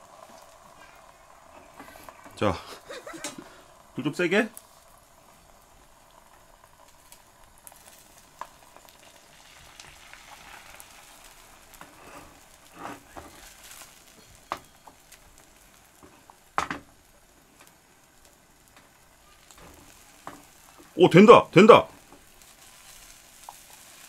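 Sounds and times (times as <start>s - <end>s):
egg sizzling in oil: 0.0s - 24.0s.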